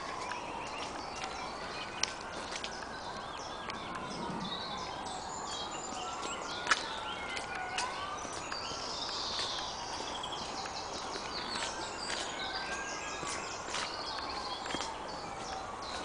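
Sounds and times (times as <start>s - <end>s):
songbirds singing: 0.0s - 16.0s
steady outdoor hiss: 0.0s - 16.0s.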